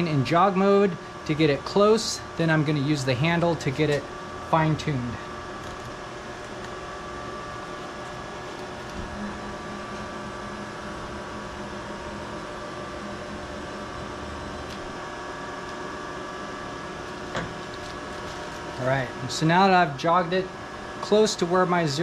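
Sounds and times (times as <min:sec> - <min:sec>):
axis drives droning: 0:00.0 - 0:22.0
milling machine humming: 0:00.0 - 0:22.0.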